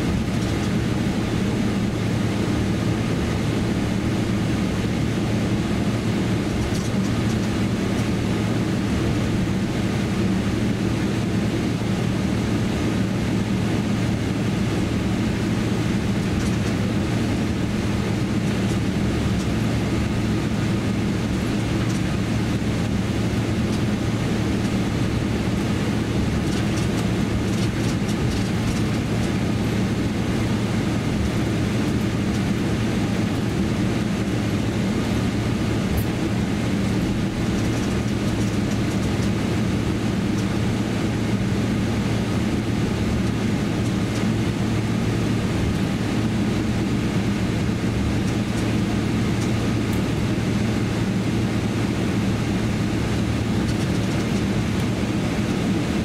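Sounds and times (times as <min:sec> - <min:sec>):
airliner cabin engine hum: 0:00.0 - 0:56.0.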